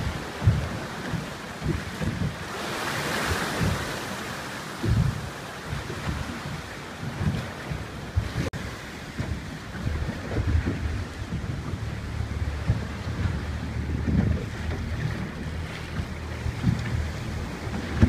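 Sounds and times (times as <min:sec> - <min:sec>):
sea waves splashing against rocks: 0:00.0 - 0:18.0
wind gusting over microphone: 0:00.0 - 0:18.0.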